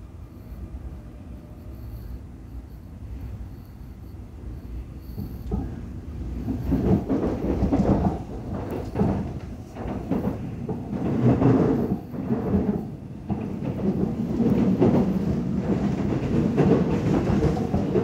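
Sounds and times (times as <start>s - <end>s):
metro train rumbling on bridge: 0.0s - 18.0s.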